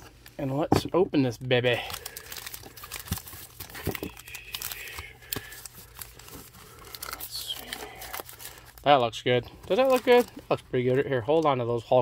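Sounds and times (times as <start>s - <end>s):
card pack wrappers crinkling: 1.3s - 11.5s.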